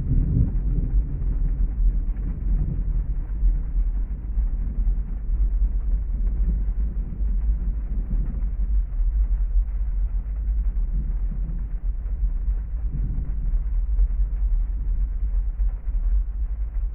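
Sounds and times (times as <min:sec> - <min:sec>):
muffled heavy rain on car: 0:00.0 - 0:16.9.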